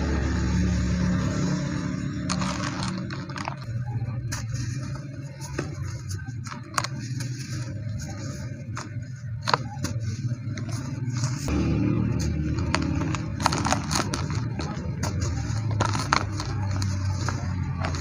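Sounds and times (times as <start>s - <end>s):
dry cement crunching and cracking: 2.0s - 18.0s.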